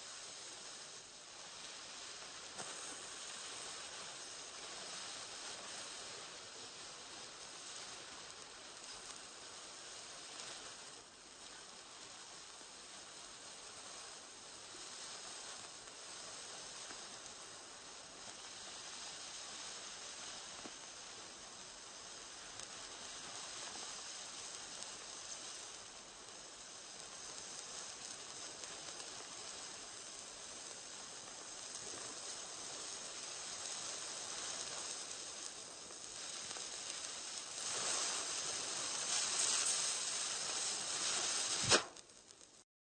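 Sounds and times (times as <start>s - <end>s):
burning fuse hissing: 0.0s - 42.6s.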